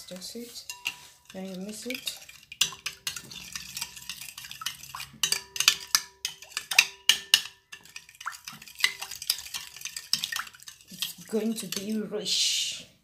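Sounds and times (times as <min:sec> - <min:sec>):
fork beating eggs in bowl: 0:00.0 - 0:12.1.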